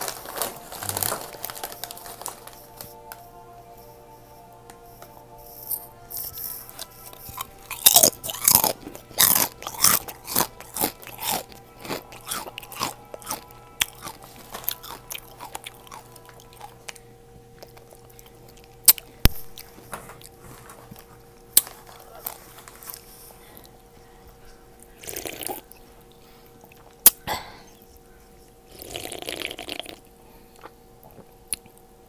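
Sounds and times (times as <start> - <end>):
chewing crunchy chips: 0.0 - 3.3, 5.6 - 31.9.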